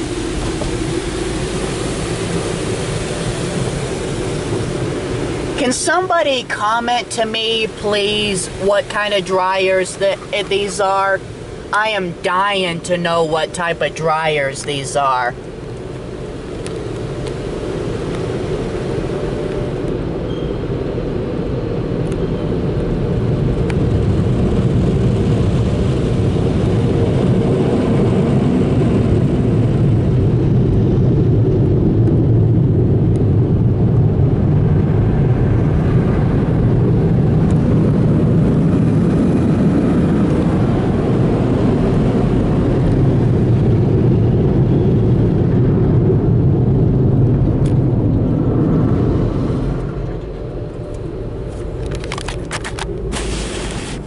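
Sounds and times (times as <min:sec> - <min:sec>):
dryer blowers blasting air: 0:00.0 - 0:54.0.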